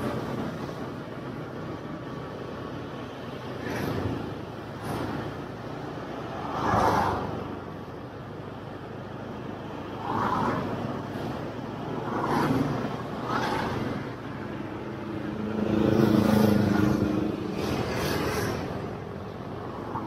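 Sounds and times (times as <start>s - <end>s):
road traffic rumble: 0.0s - 20.0s
vehicles passing close by: 0.0s - 20.0s.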